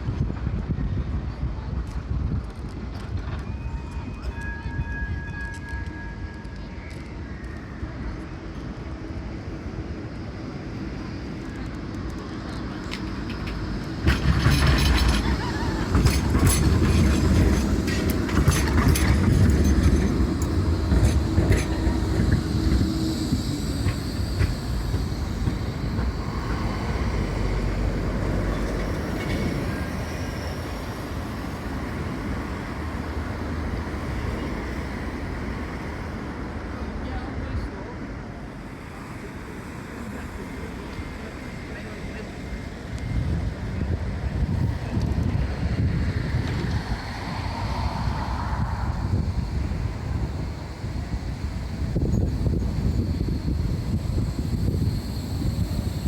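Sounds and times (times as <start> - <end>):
tram hum: 0.0 - 56.0
tram wheels clattering on rails: 0.0 - 56.0.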